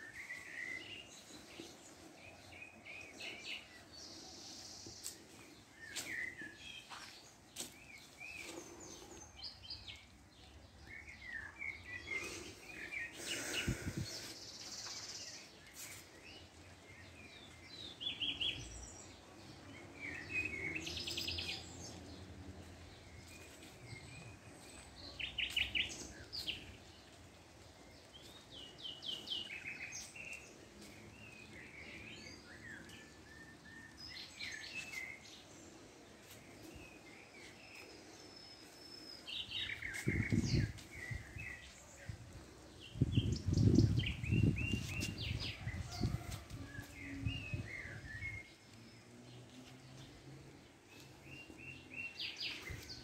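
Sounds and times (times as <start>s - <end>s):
birds chirping and singing: 7.8s - 53.0s.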